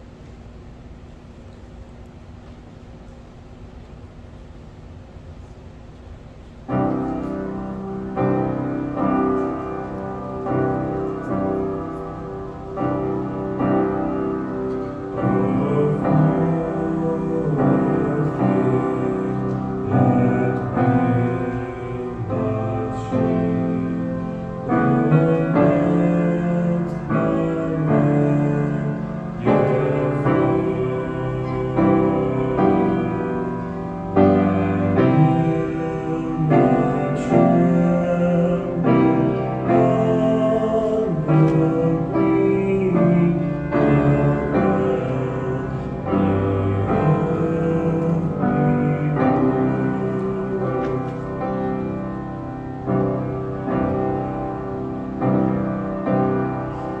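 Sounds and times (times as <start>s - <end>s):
piano playing slow chords: 6.6s - 57.0s.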